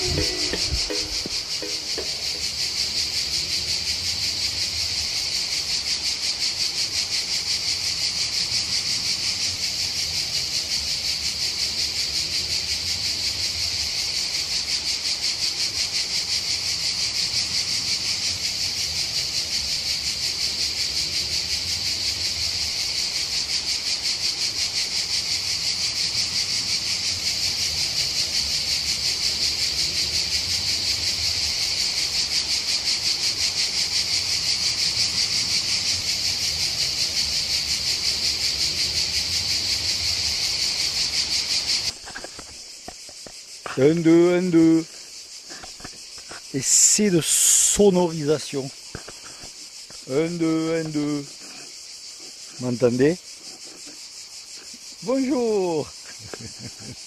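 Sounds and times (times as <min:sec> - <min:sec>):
cicadas singing: 0:00.0 - 0:57.0.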